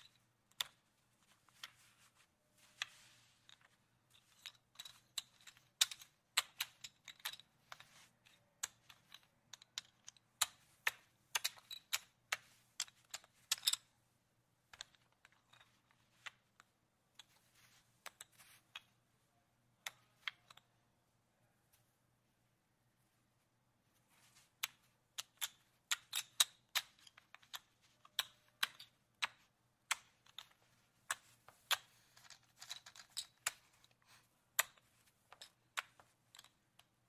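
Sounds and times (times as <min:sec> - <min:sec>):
casino chips clacking: 0:00.0 - 0:13.9, 0:14.7 - 0:18.9, 0:24.4 - 0:37.0.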